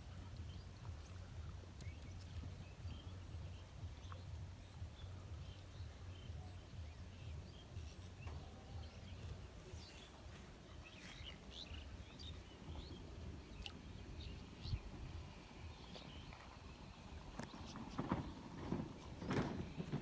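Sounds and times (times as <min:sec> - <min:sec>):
bird chirps: 0:00.0 - 0:19.9
low steady rumble: 0:00.0 - 0:20.0.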